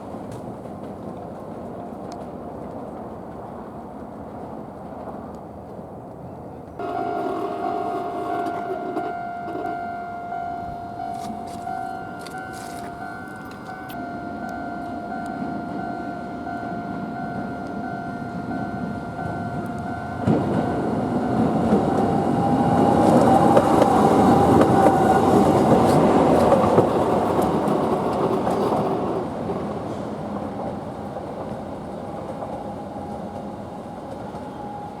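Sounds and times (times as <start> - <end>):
tram wheels knocking: 0.0 - 6.0, 6.8 - 35.0
tram rumbling past: 0.0 - 35.0
crossing warning bell ringing: 6.8 - 35.0.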